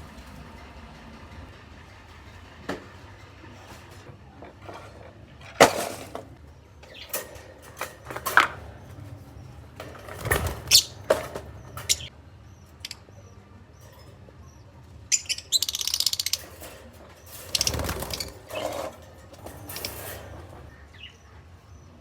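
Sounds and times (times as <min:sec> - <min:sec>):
birds moving in a cage: 0:00.0 - 0:22.0.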